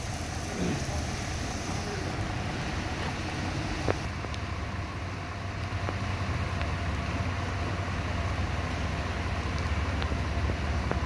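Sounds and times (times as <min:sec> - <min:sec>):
car engine and tyres on wet road: 0:00.0 - 0:11.0.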